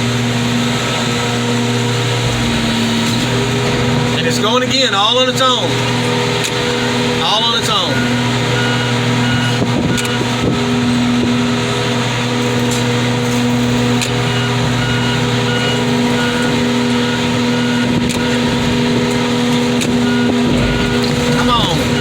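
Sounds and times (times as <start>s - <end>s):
hydraulic car crusher running: 0.0s - 22.0s.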